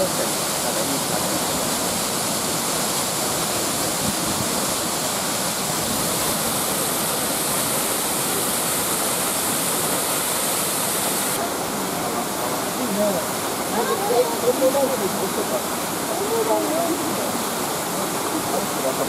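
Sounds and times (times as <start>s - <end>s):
waterfall pouring down rock: 0.0s - 19.0s.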